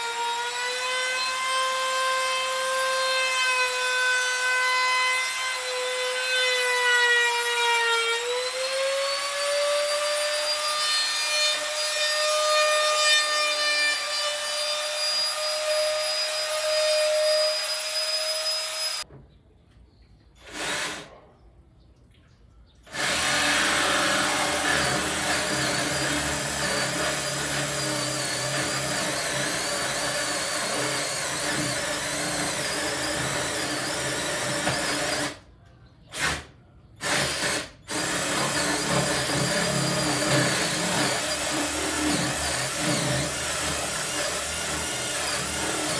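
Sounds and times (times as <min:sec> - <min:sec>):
cordless drill boring into wood: 0:00.0 - 0:19.0, 0:20.4 - 0:21.1, 0:22.9 - 0:35.4, 0:36.1 - 0:45.9.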